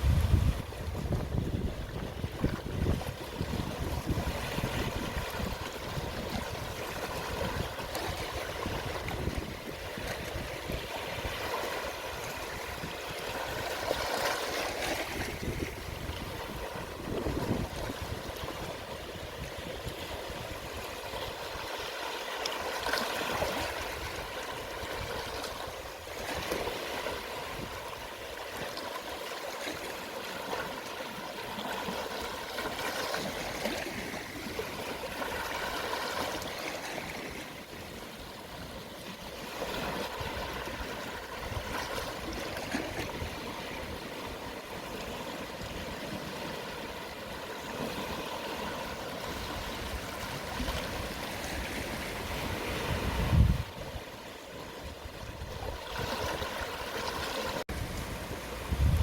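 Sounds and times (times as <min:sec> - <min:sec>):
gentle sea waves washing ashore: 0:00.0 - 0:59.0.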